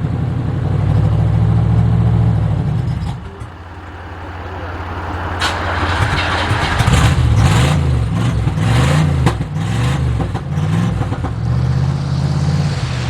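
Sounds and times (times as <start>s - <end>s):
vehicle engine revving: 0.1s - 13.0s.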